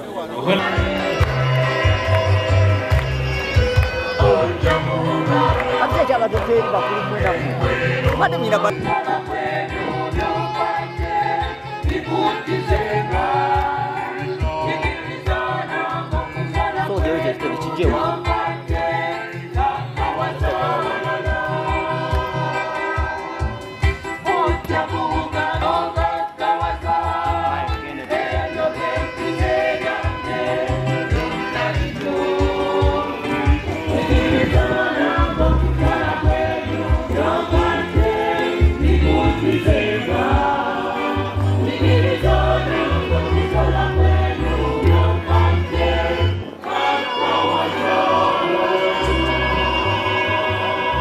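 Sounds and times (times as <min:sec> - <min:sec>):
group of voices singing: 0:00.0 - 0:51.0
bass line: 0:00.6 - 0:25.9, 0:28.4 - 0:46.6.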